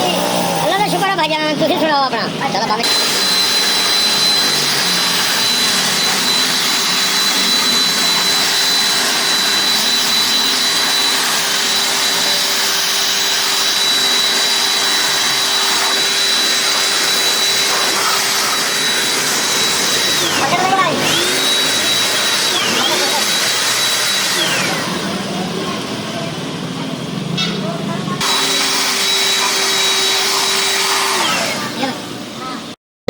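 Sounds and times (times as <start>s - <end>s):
pressure washer high whine: 0.0s - 32.8s.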